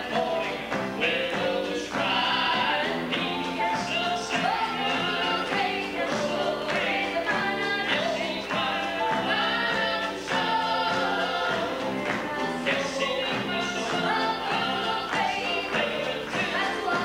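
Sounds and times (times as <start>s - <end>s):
drums: 0.0s - 17.0s
electric bass: 0.0s - 17.0s
piano: 0.0s - 17.0s
voices singing in harmony: 0.0s - 17.0s.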